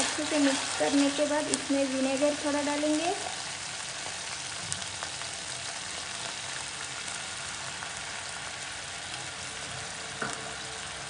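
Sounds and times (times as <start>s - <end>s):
garlic sizzling in hot oil: 0.0s - 11.0s.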